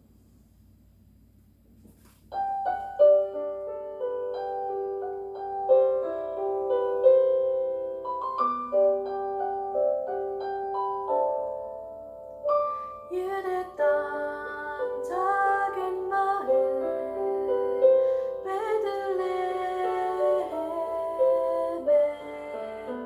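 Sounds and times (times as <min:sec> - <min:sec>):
piano accompaniment: 0:01.7 - 0:23.0.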